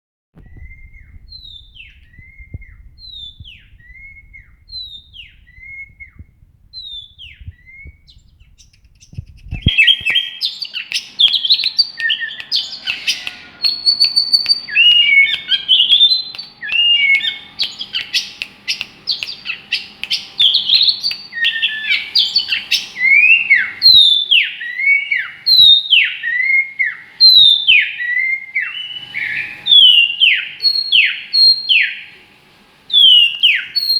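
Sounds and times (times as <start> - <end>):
songbird singing: 0.4 - 32.1, 33.0 - 33.9.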